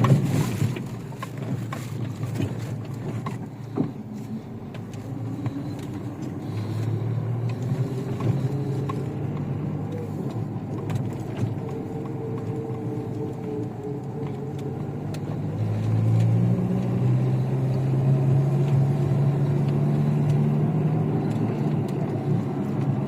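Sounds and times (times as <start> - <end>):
car engine running off-road: 0.0 - 23.0.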